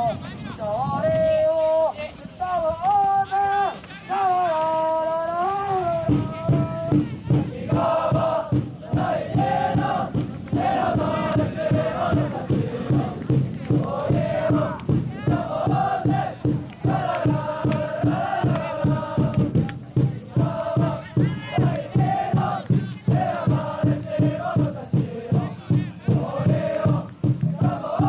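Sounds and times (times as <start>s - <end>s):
crowd chanting and singing: 0.0s - 28.0s
steady drumbeat: 5.3s - 28.0s.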